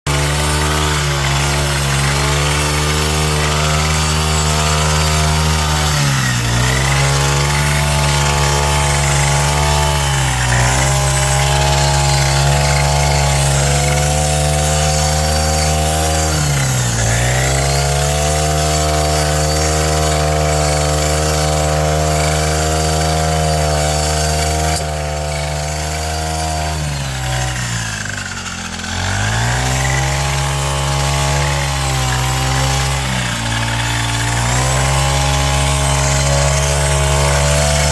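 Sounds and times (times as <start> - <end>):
grass cutter engine running: 0.1 - 37.9.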